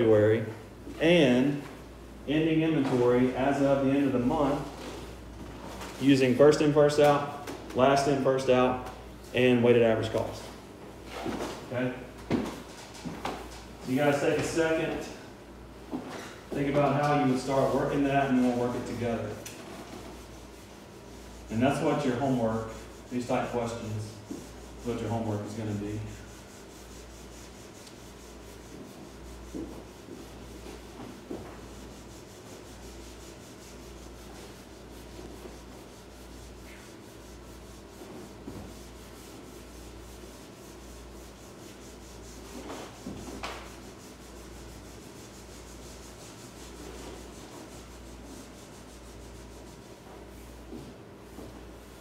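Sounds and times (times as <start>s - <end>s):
faint rubbing and rustling: 0.0s - 52.0s
steady low hum: 0.0s - 52.0s.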